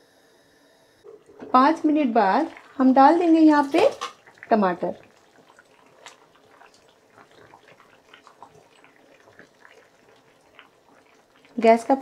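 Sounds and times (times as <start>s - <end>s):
water boiling with pops: 1.0s - 12.0s.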